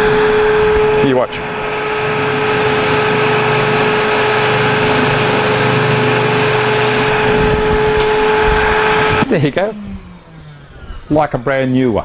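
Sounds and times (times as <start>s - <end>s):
shop vac running: 0.0s - 11.6s
sander humming: 0.0s - 12.0s.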